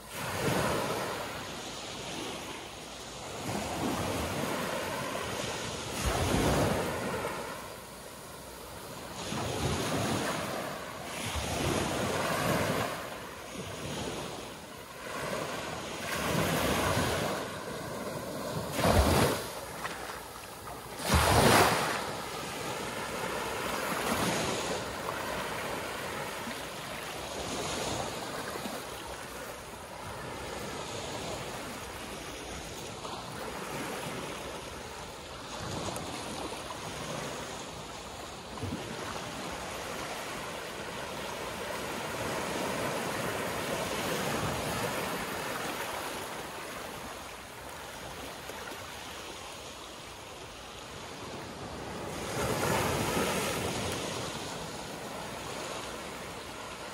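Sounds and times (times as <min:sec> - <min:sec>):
small waves breaking on sandy shore: 0:00.0 - 0:56.9.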